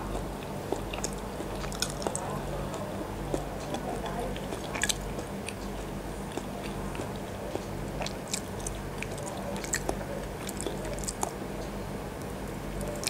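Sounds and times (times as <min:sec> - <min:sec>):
wet chewing clicks and smacks: 0:00.0 - 0:13.0.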